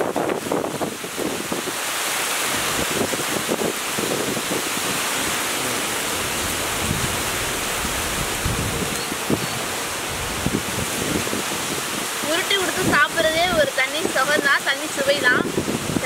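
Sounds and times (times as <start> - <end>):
strong wind through trees: 0.0 - 16.0
wind buffeting microphone: 0.0 - 16.0.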